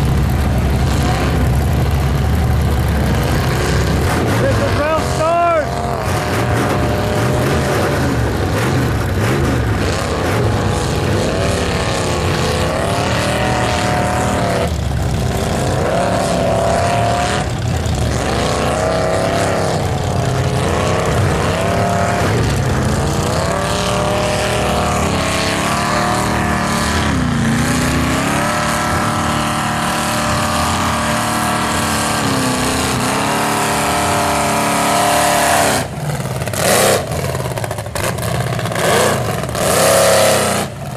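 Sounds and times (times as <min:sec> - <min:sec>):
buggy engine revving in mud: 0:00.0 - 0:40.9.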